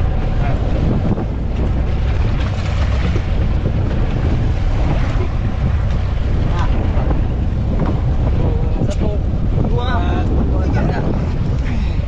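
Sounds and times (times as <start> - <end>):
water washing: 0.0 - 12.0
wind buffeting microphone: 0.0 - 12.0.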